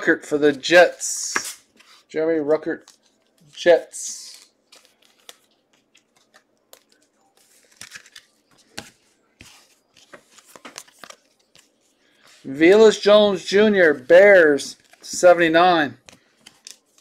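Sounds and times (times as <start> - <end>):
cards and wrappers rustling: 0.2 - 17.0.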